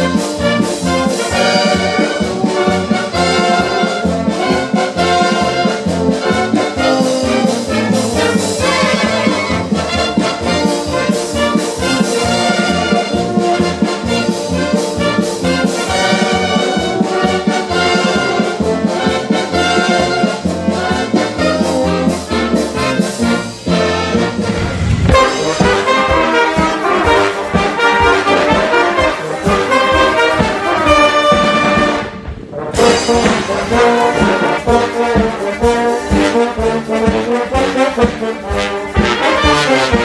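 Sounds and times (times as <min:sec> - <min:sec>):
military brass band music: 0:00.0 - 0:40.0.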